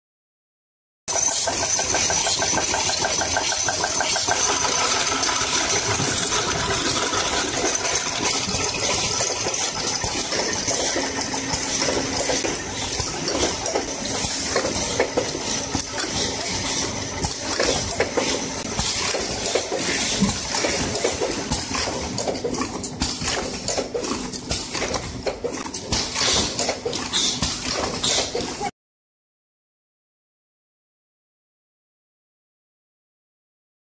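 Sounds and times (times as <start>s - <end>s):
cartoning machine clatter: 1.1s - 28.7s.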